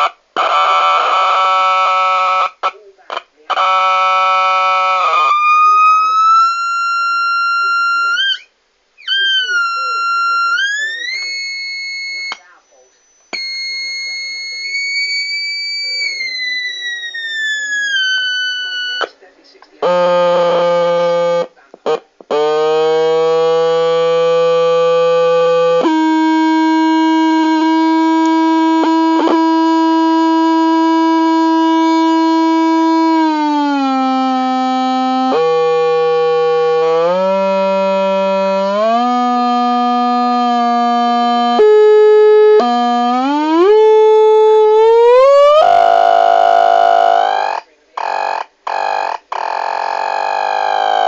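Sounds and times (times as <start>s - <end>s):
buzzy synthesizer tone: 3.6s - 51.0s.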